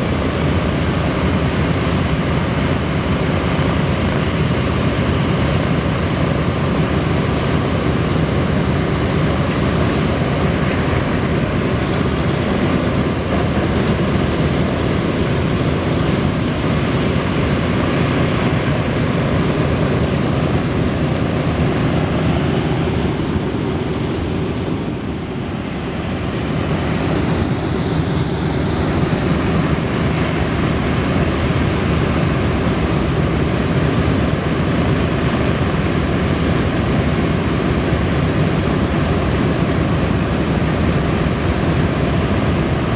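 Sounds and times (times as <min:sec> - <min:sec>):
aircraft radial engines running: 0:00.0 - 0:42.9.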